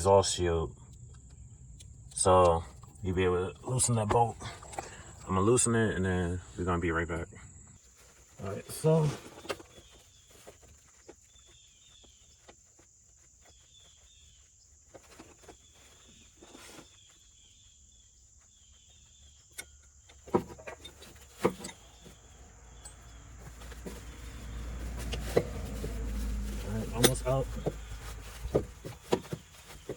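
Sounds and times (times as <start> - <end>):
insects chirping trills: 0.0 - 29.9.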